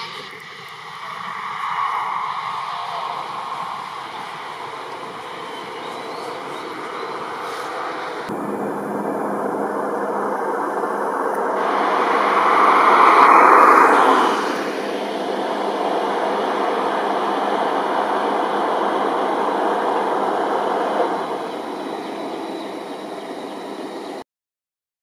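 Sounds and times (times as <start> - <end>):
jet engines roaring: 0.0 - 24.2.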